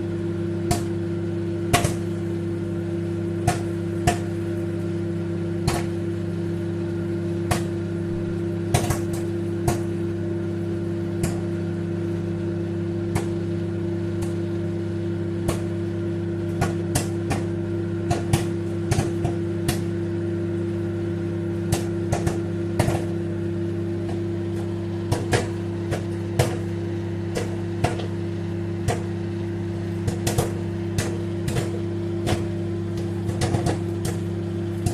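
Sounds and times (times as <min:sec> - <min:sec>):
microwave oven hum: 0:00.0 - 0:34.9
popcorn popping: 0:00.0 - 0:34.9.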